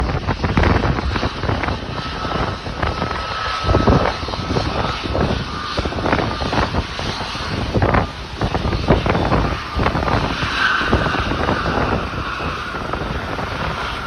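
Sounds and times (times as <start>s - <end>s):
jet engines whining: 0.0s - 14.0s
wind buffeting microphone: 0.0s - 14.0s.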